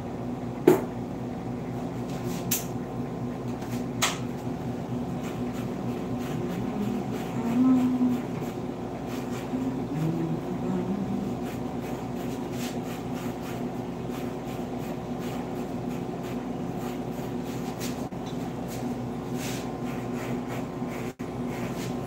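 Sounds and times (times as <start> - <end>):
steady electric hum: 0.0 - 22.0.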